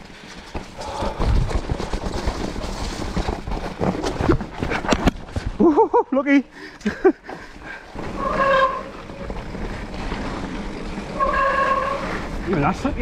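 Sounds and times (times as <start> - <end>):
low wind rumble: 0.0 - 5.7, 7.4 - 13.0
bike rattling over roots: 0.0 - 5.8, 6.7 - 13.0.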